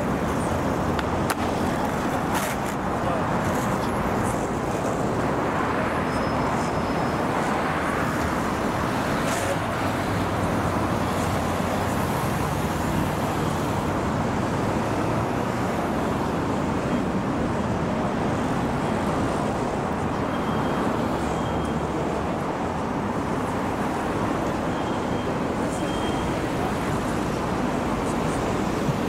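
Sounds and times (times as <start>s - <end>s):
car traffic noise: 0.0s - 29.0s.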